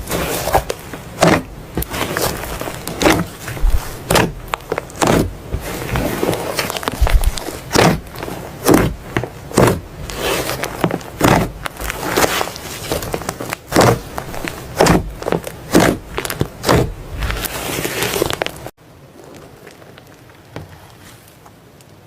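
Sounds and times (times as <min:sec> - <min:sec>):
slime squelching and popping: 0:00.0 - 0:18.7.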